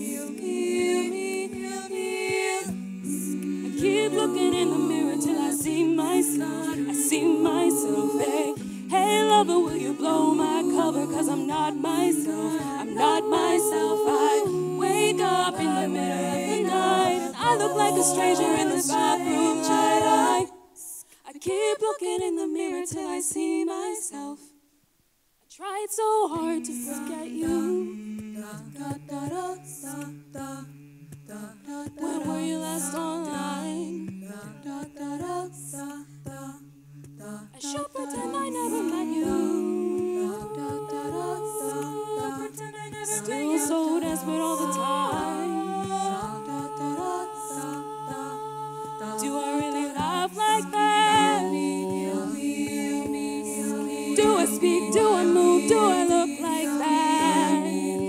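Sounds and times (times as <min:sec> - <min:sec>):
beatboxed vocal percussion: 0:00.0 - 0:20.5, 0:26.3 - 0:58.0
sustained backing harmonies: 0:00.0 - 0:24.5, 0:26.0 - 0:58.0
woman singing lead: 0:00.0 - 0:24.5, 0:25.5 - 0:30.7, 0:31.3 - 0:58.0.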